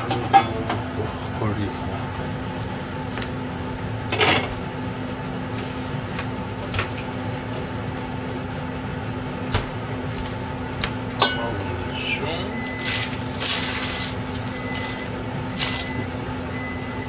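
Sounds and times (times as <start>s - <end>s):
appliance hum: 0.0s - 17.0s.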